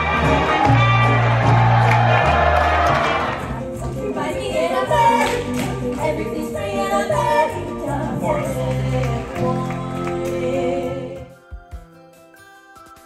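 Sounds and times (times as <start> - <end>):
light background music: 0.0 - 13.0
stage show music with singing: 0.0 - 13.0.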